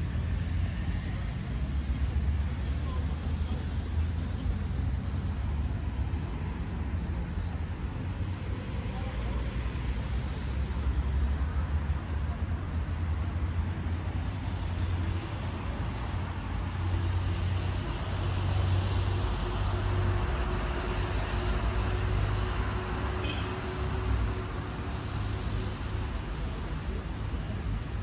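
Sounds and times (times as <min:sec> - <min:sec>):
traffic rumble and tyre noise: 0:00.0 - 0:28.0.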